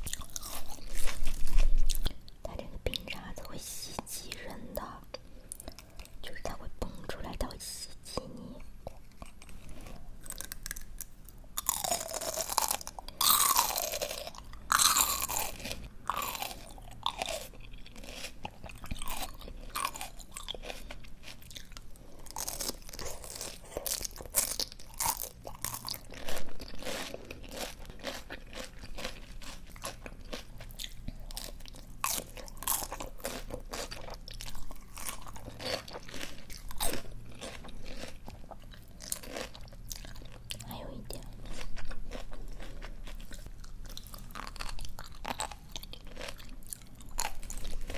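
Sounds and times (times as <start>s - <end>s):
crunchy chewing of raw greens: 0.0s - 2.4s, 5.2s - 6.2s, 8.8s - 47.9s.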